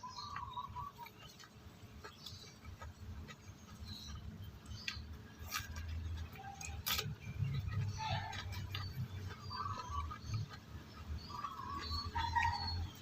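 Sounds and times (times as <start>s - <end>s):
crunching raw vegetable: 0.0s - 13.0s
wet chewing: 0.0s - 13.0s.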